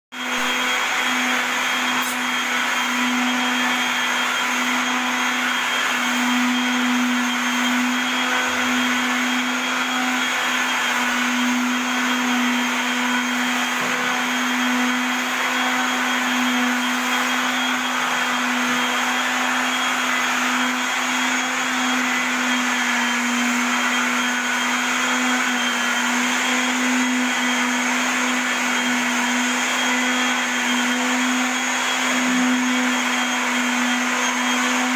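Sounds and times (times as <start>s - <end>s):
electric sander on wood: 0.1s - 34.9s.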